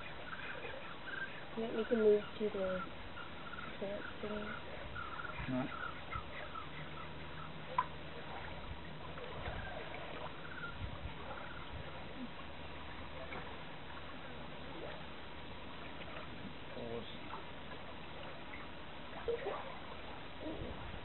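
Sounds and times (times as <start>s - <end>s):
faint hum: 0.0s - 21.0s
wind and water noise: 0.0s - 21.0s.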